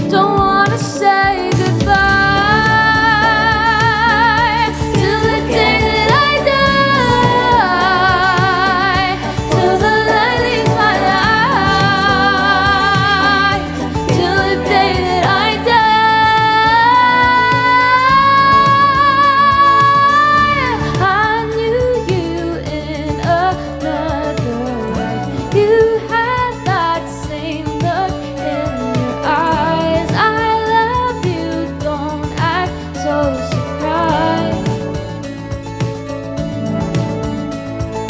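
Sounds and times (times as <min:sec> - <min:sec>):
person singing with vibrato: 0:00.0 - 0:35.5
sustained musical accompaniment: 0:00.0 - 0:38.0.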